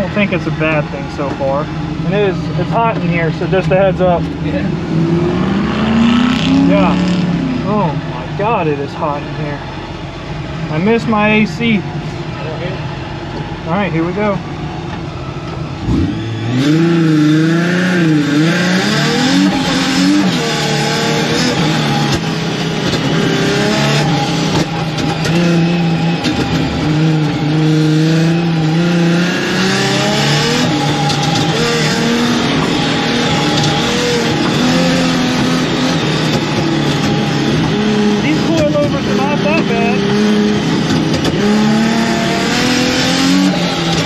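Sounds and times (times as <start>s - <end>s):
car engine revving hard: 0.0s - 11.8s, 15.6s - 44.0s.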